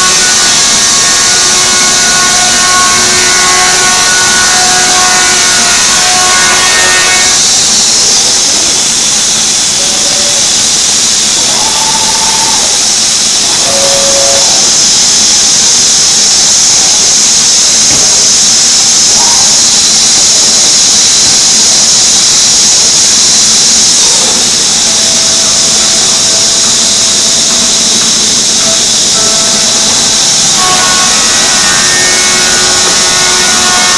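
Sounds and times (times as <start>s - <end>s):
router spindle cutting wood: 0.0s - 33.9s.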